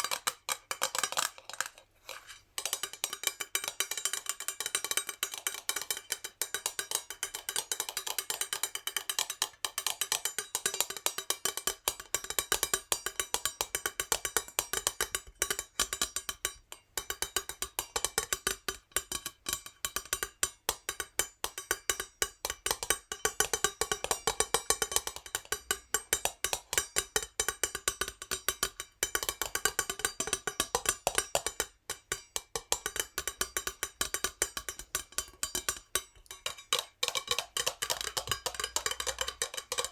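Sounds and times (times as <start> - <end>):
fingernails tapping on metal jar: 2.6 - 39.9.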